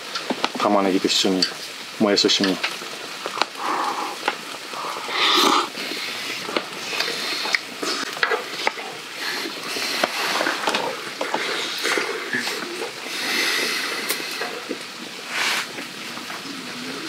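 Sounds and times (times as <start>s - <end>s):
meat and vegetables sizzling: 0.0s - 17.0s.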